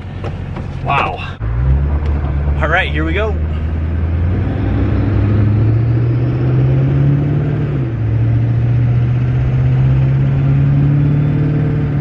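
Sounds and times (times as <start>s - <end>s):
diesel engine accelerating: 0.0s - 12.0s.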